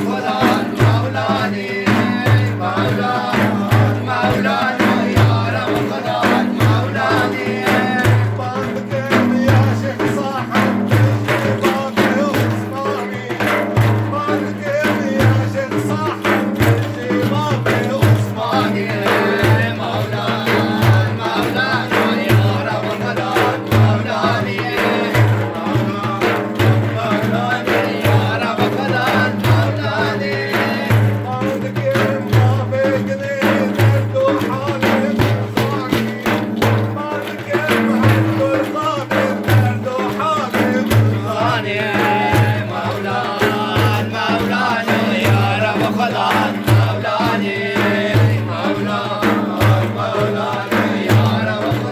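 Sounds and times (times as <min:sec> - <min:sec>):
hand drums beating: 0:00.0 - 0:51.9
person chanting: 0:00.0 - 0:51.9.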